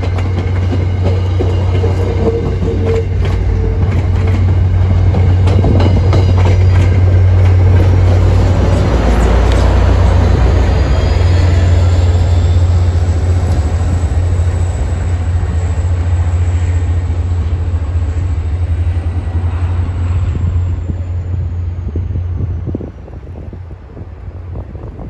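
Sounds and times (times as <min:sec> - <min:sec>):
diesel locomotive engine drone: 0:00.0 - 0:25.0
wheels rumbling on rails: 0:00.0 - 0:25.0.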